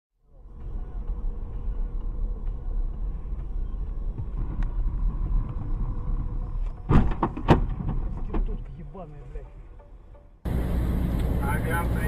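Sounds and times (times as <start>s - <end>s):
car road and engine rumble: 0.2s - 12.0s.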